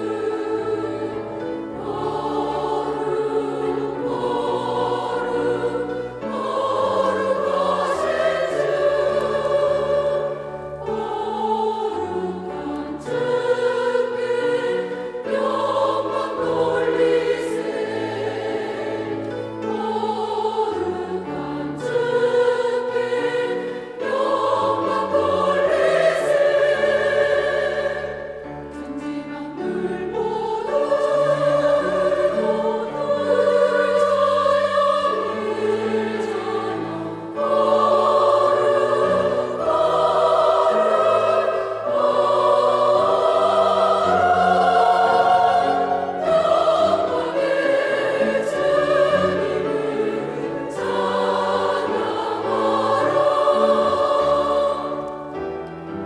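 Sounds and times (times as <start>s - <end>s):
church choir singing: 0.0s - 56.0s.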